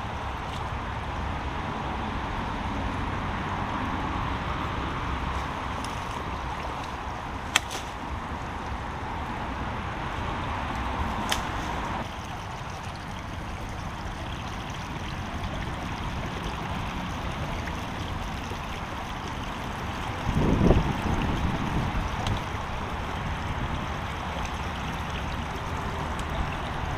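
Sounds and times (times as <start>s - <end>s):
brook water rushing: 0.0s - 26.9s.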